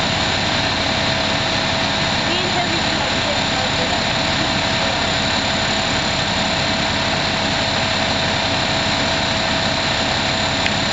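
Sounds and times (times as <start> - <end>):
diesel engine idling: 0.0 - 10.9
thin steady whine: 0.0 - 10.9.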